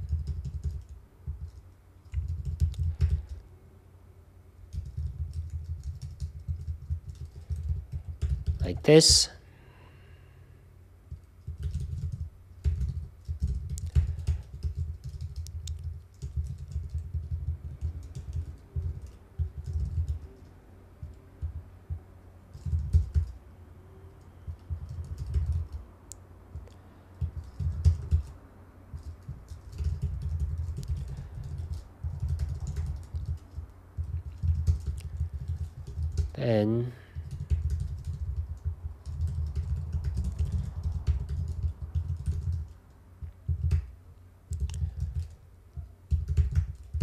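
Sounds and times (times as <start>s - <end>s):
typing on computer keyboard: 0.0s - 3.4s, 4.7s - 8.7s, 11.1s - 23.4s, 24.2s - 25.9s, 26.5s - 36.4s, 37.1s - 47.0s.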